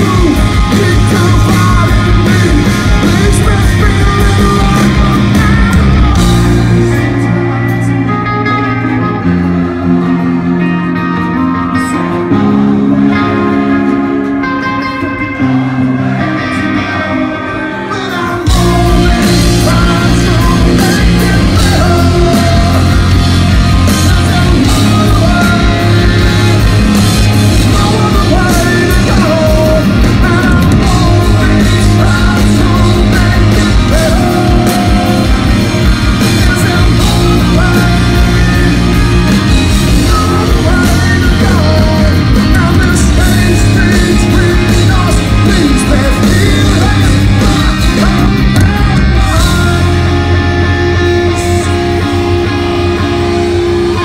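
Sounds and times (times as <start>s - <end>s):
bass guitar: 0.0s - 54.0s
drums: 0.0s - 54.0s
electric guitar: 0.0s - 54.0s
person singing: 0.0s - 54.0s.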